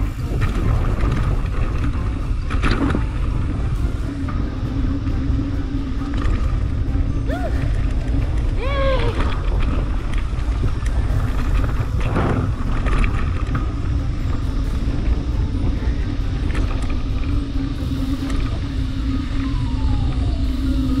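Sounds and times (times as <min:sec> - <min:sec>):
bike clicks and rattles: 0:00.0 - 0:21.0
bike tyres on dirt: 0:00.0 - 0:21.0
wind rumble on microphone: 0:00.0 - 0:21.0.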